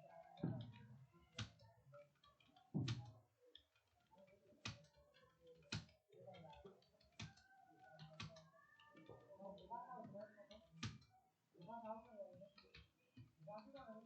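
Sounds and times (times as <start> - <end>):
faint background voices: 0.0 - 14.0
computer keyboard typing: 0.2 - 14.0.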